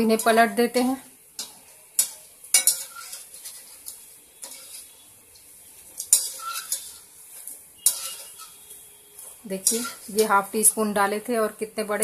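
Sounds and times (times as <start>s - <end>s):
metal spoon clinking against pan: 0.0s - 10.5s
oil sizzling: 0.0s - 12.0s.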